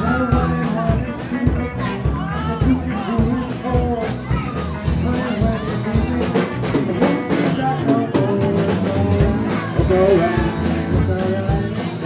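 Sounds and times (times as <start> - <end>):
lead guitar with bent notes: 0.0 - 12.0
rock band playing: 0.0 - 12.0.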